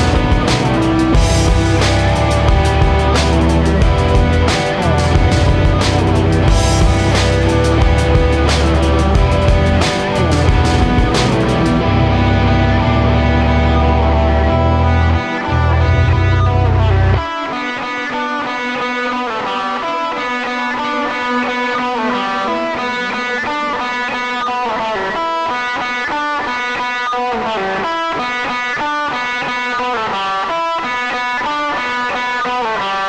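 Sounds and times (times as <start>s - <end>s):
electric guitar plucked notes: 0.0s - 33.0s.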